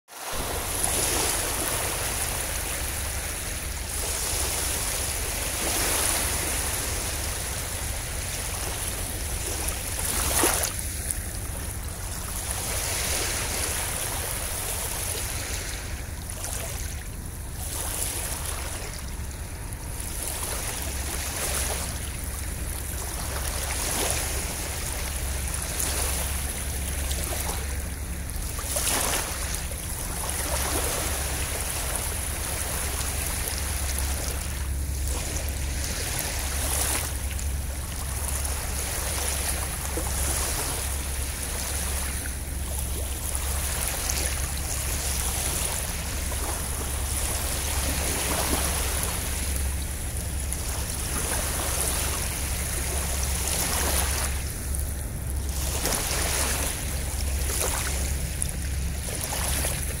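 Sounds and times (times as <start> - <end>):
waves lapping on pebbles: 0.1 - 60.0.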